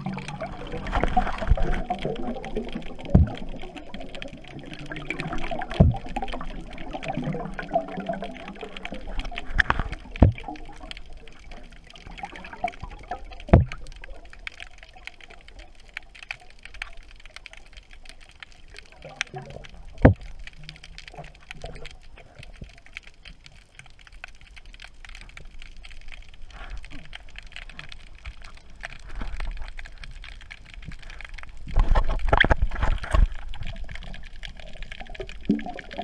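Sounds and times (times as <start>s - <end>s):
underwater air bubbling: 0.0s - 23.7s, 24.6s - 36.0s
sharp underwater clicks: 0.0s - 36.0s
underwater water noise: 0.0s - 36.0s.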